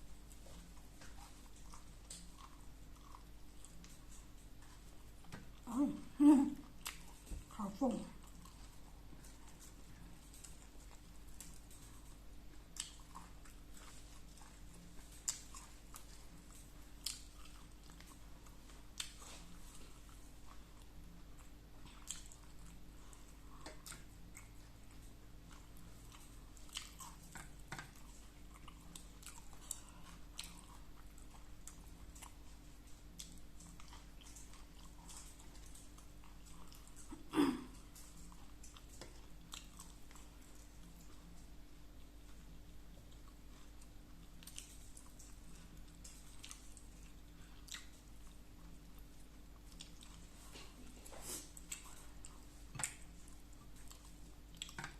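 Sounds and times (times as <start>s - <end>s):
person chewing and eating: 0.0s - 54.9s.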